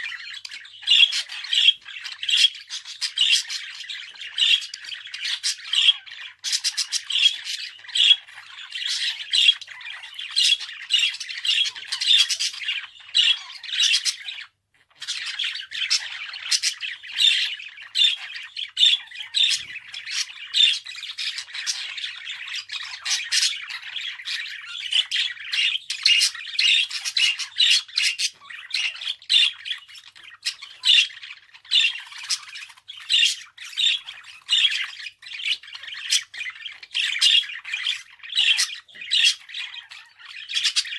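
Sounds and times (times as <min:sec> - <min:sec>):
budgerigar chattering and warbling: 0:00.0 - 0:40.9.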